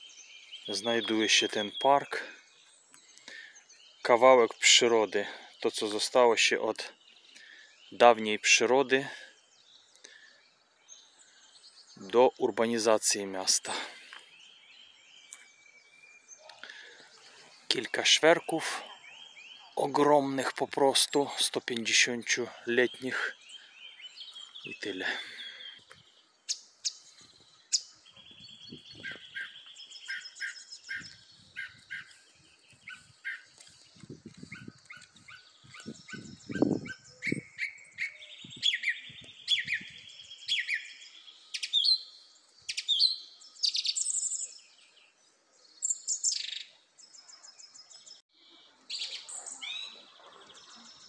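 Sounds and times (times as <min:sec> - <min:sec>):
songbirds singing and chirping: 0:00.0 - 0:51.0.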